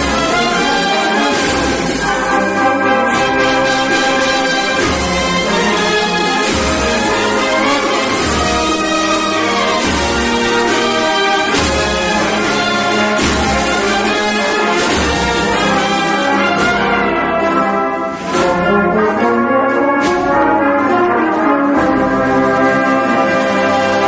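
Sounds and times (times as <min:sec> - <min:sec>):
brass band playing a march: 0:00.0 - 0:24.0
drum strokes: 0:00.0 - 0:24.0.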